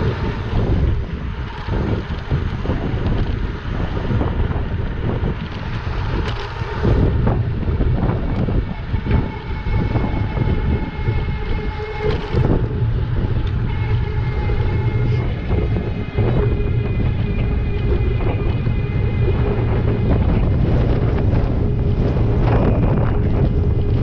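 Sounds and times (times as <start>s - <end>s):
electric motor whine: 0.0s - 24.0s
wind buffeting microphone: 0.0s - 24.0s.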